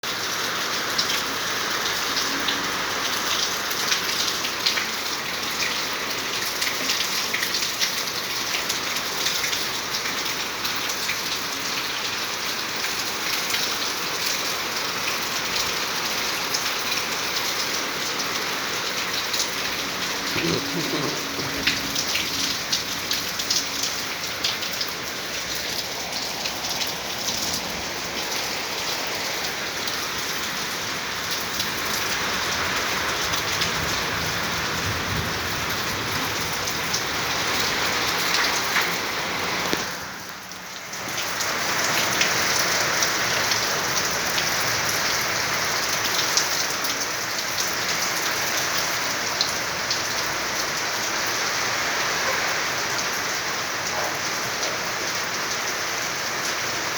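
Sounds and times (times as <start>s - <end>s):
heavy rain falling: 0.1s - 56.9s.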